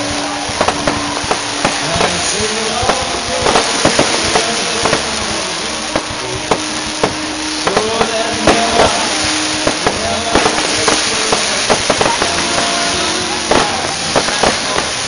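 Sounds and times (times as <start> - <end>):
crowd noise: 0.0 - 15.0
fireworks bangs: 0.0 - 15.0.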